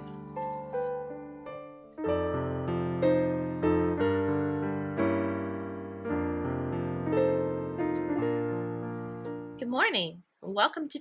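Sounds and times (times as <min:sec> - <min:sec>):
slow piano chords: 0:00.0 - 0:09.6.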